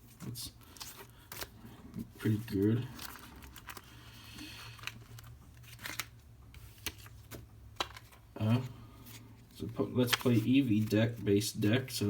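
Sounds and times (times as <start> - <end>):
packaging crinkling and rustling: 0.1 - 11.3.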